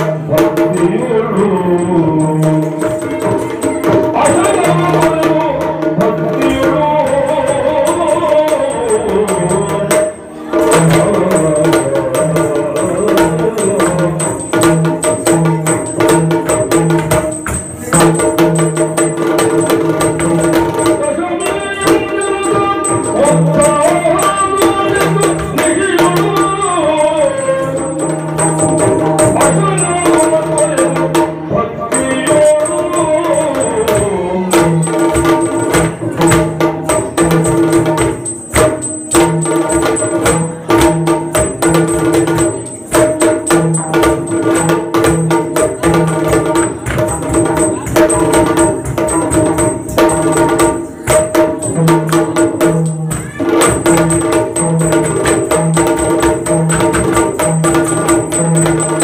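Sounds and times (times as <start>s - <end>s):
high metallic jingle: 0.0s - 5.7s, 6.3s - 59.0s
person singing: 0.0s - 16.5s, 20.2s - 38.8s, 39.4s - 59.0s
barrel drum beating fast rhythm: 0.0s - 59.0s.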